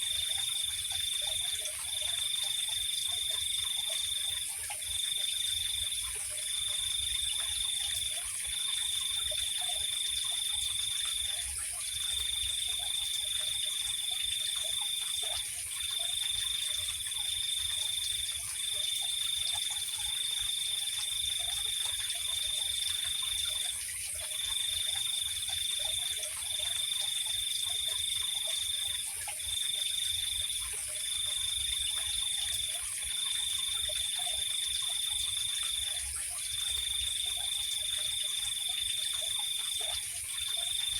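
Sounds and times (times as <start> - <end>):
cricket trilling: 0.0 - 40.9
faint frog calls: 0.0 - 40.9
steady insect drone: 0.0 - 40.9.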